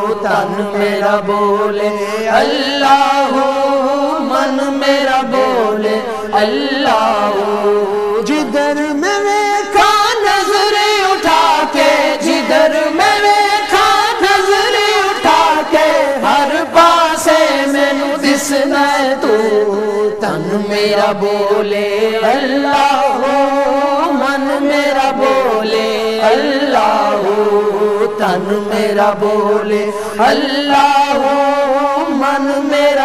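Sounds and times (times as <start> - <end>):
men chanting devotional song: 0.0 - 33.0.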